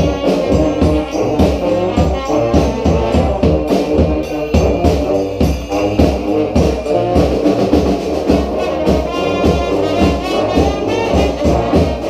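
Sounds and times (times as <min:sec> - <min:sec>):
bass drum and snare beat: 0:00.0 - 0:12.0
brass band playing: 0:00.0 - 0:12.0.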